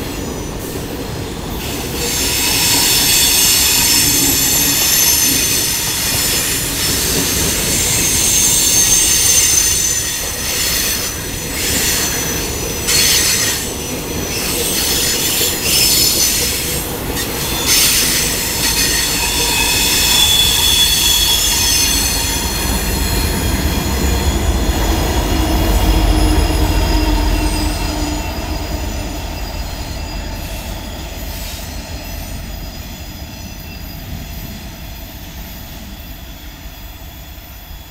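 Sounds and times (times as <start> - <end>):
wheel flanges squealing: 1.6 - 37.9.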